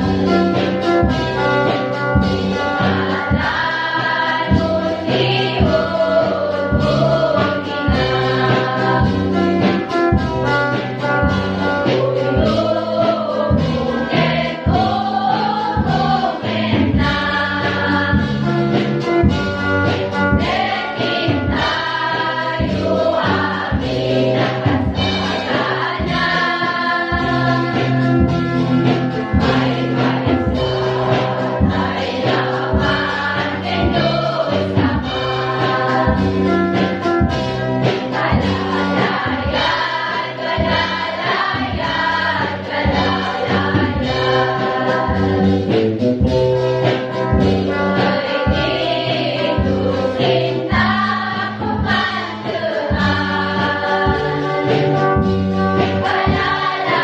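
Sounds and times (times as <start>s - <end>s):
choir singing gospel song: 0.0s - 57.0s
instrumental accompaniment with beat: 0.0s - 57.0s.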